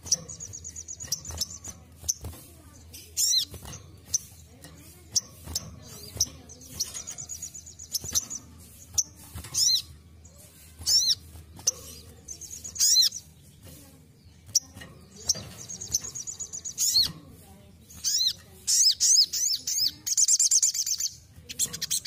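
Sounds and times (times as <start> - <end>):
bird chirping: 0.0 - 22.0
rapid high bird trills: 0.0 - 22.0.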